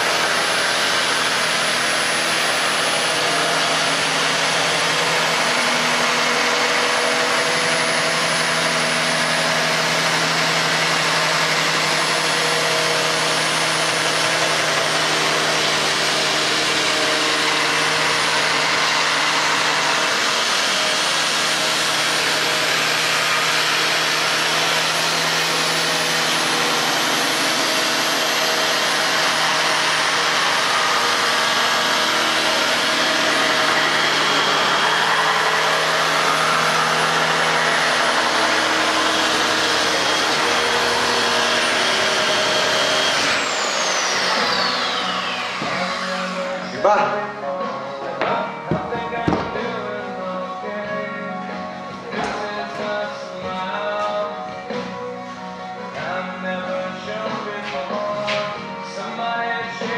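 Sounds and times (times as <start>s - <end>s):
belt sander whining: 0.0s - 59.9s.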